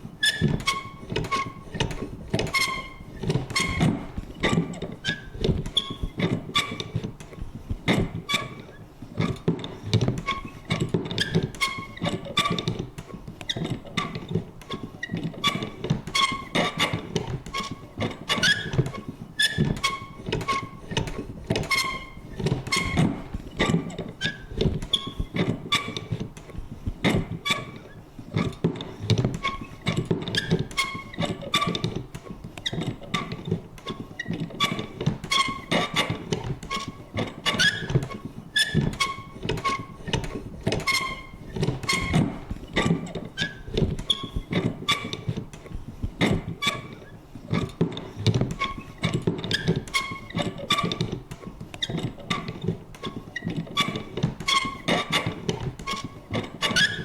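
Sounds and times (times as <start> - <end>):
creaky squeak of paper punch: 0.0 - 57.0
paper punch clicking and clunking: 0.2 - 57.0.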